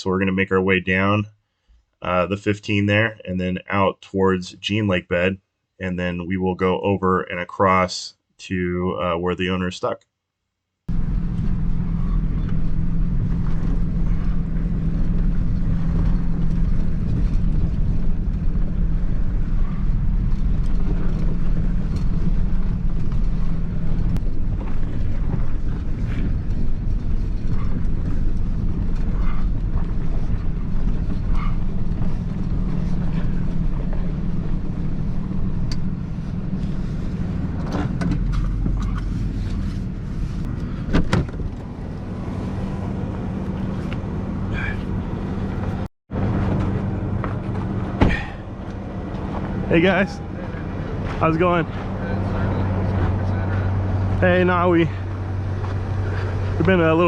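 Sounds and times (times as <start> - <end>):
vehicle engine and road rumble: 10.9 - 57.0.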